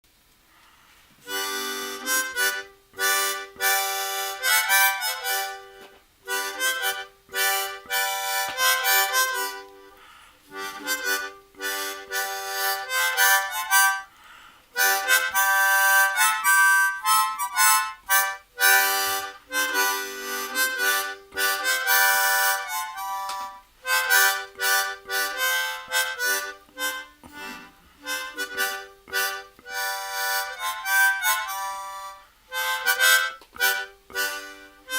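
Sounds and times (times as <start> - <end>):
harmonica playing: 1.2 - 34.9.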